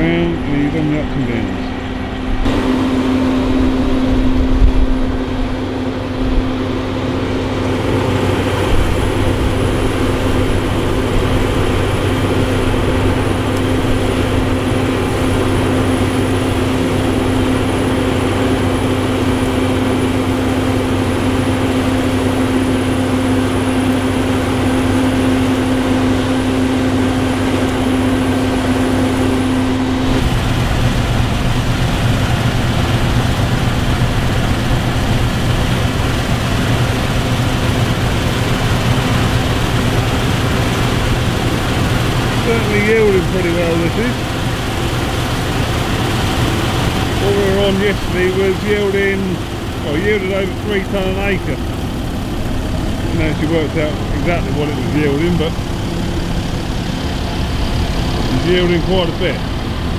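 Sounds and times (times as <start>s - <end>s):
drone propellers whining: 0.0s - 59.9s
harvester and tractor engine hum: 0.0s - 59.9s.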